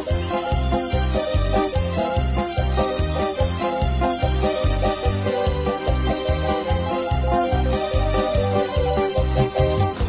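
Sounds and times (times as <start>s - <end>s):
keyboard melody: 0.0s - 10.0s
steady bass beat: 0.0s - 10.0s.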